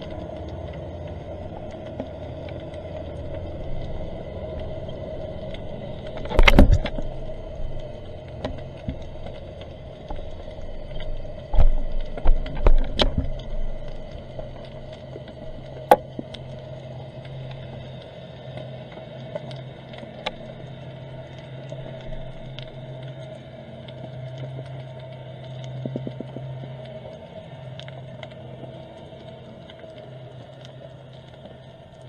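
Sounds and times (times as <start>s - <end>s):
muffled underwater rumble: 0.0s - 32.0s.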